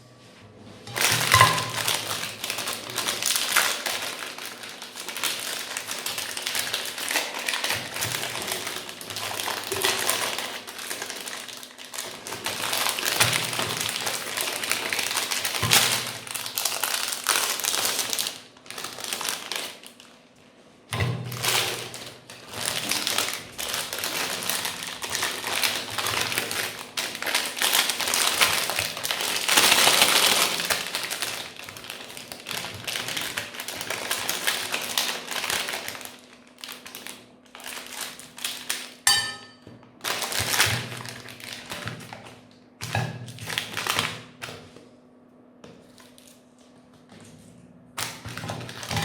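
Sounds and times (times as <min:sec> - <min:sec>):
meat grinder crunching: 0:00.9 - 0:39.2, 0:39.9 - 0:44.9, 0:47.2 - 0:49.0.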